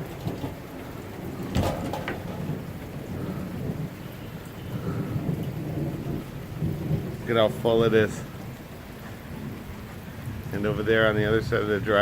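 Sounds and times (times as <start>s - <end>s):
heavy rain falling: 0.0s - 12.0s
low thunder rumbling: 0.0s - 12.0s.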